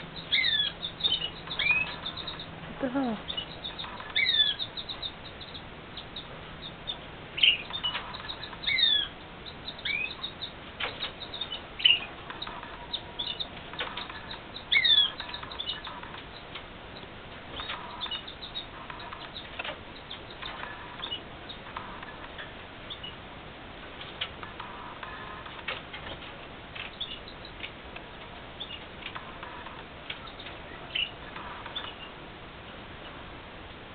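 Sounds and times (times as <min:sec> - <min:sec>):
canaries chirping: 0:00.0 - 0:23.3, 0:24.0 - 0:33.8.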